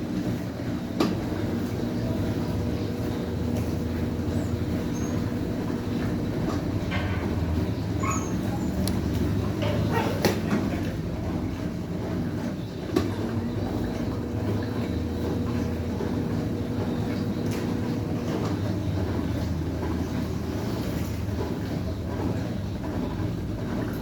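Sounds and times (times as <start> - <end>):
washing machine drum spinning: 0.0 - 24.0.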